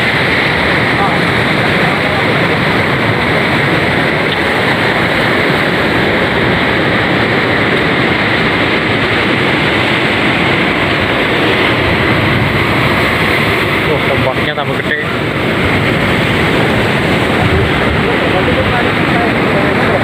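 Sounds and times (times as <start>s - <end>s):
surf breaking against rocks: 0.0s - 20.0s
wind on microphone: 0.0s - 20.0s.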